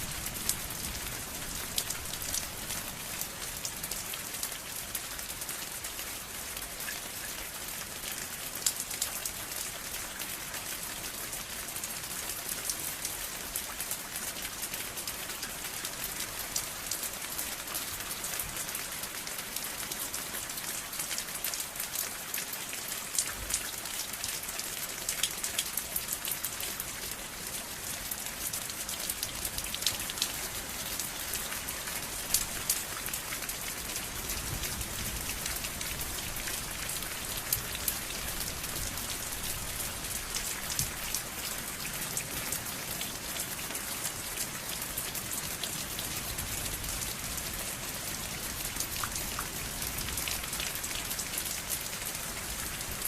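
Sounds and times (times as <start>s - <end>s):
rain pattering on hard surface: 0.0s - 53.0s.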